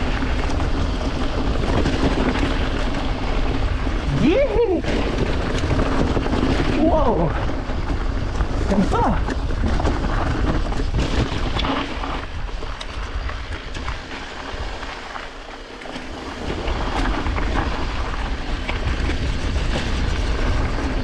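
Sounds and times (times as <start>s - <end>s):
bike clicks and rattles: 0.0s - 21.0s
bike tyres on rough trail: 0.0s - 21.0s
wind rumble on microphone: 0.0s - 21.0s.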